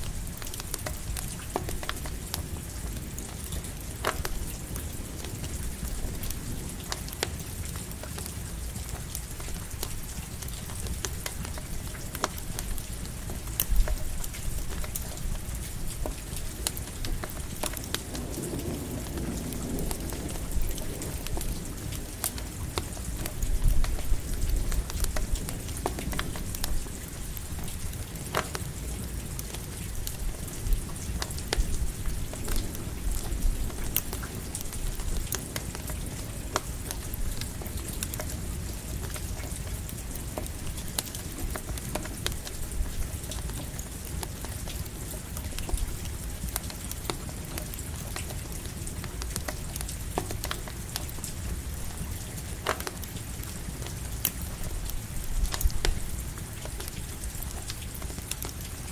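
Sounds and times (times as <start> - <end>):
campfire popping and crackling: 0.0 - 58.9
light rain hissing: 0.0 - 58.9.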